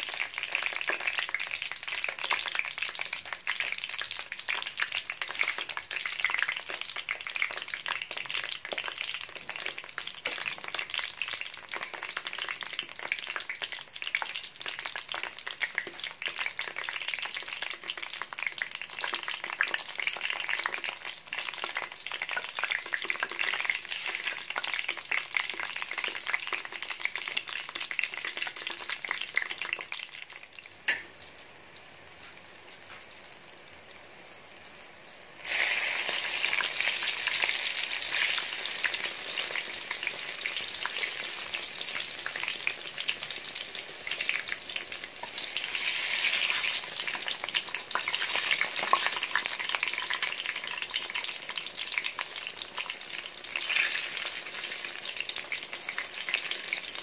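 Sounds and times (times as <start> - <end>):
eggplant sizzling in hot oil: 0.0 - 57.0.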